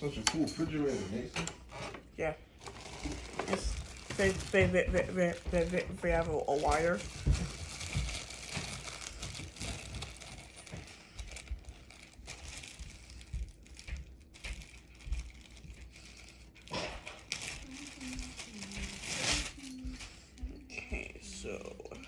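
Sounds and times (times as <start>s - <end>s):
packaging crinkling and rustling: 1.4s - 20.1s.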